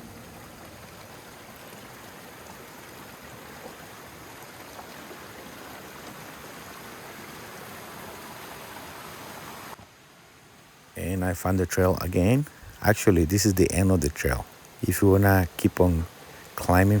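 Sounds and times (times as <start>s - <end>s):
creek water running over rocks: 0.0s - 17.0s.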